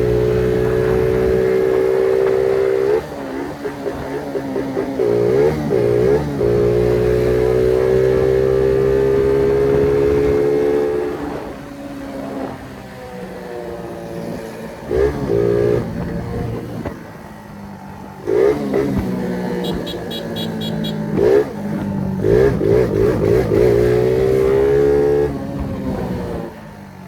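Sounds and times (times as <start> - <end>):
moped engine revving: 0.0 - 26.8.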